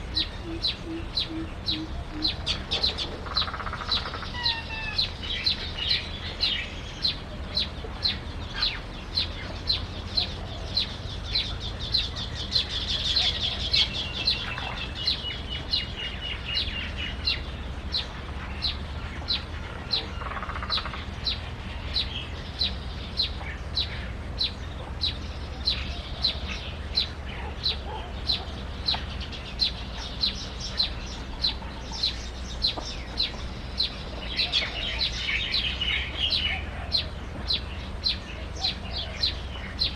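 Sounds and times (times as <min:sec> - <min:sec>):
small bird sharp high calls: 0:00.0 - 0:39.9.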